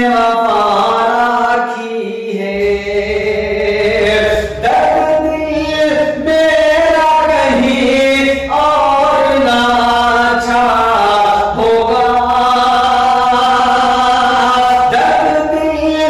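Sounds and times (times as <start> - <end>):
man singing long notes: 0.0 - 16.0
steady low hum: 2.5 - 16.0.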